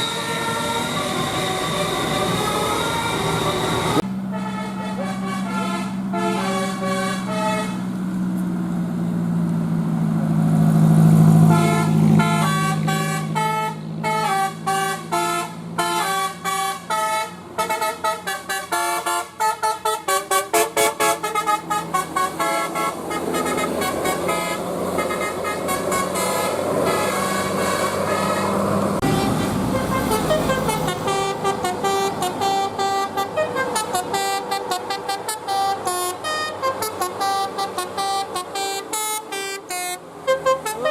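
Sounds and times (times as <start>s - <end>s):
multi-tone bus horn melody: 0.0s - 7.9s, 11.4s - 40.9s
bus engine humming: 0.0s - 40.9s.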